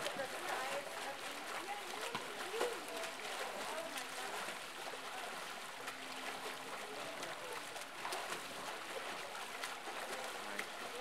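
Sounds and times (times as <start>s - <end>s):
rushing water from swim jet: 0.0s - 11.0s.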